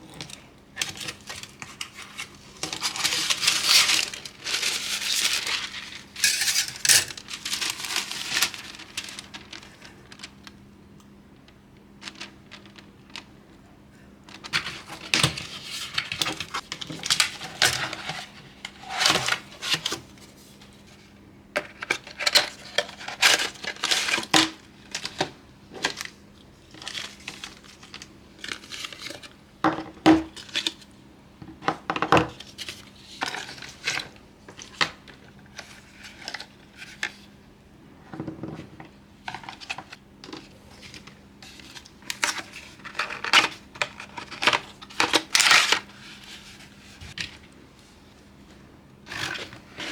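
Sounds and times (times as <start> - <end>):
packaging crinkling and rustling: 0.0 - 10.7, 11.3 - 20.8, 21.6 - 30.9, 31.9 - 37.4, 38.5 - 47.6.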